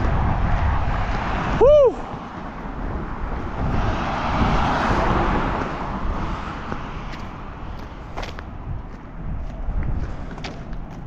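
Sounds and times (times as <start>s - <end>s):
vehicle passing on road: 0.0s - 11.0s
wind rumble on microphone: 0.0s - 11.0s.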